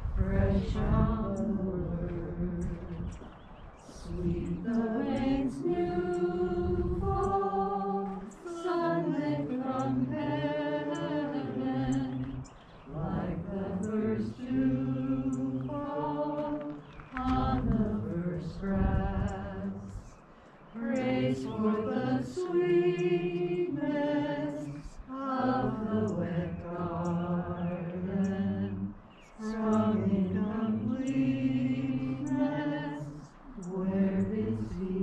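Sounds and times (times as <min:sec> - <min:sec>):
voices singing a hymn: 0:00.0 - 0:35.0.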